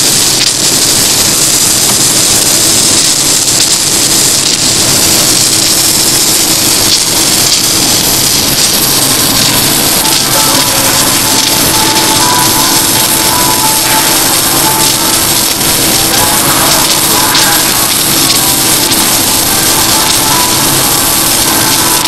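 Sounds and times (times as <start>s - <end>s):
welding arc hissing: 0.0s - 22.0s.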